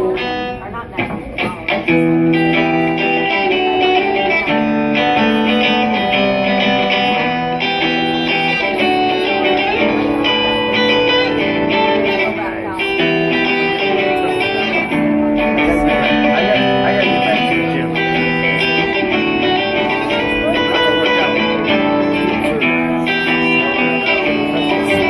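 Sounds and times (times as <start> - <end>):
electric guitar through amplifier: 0.0 - 25.0.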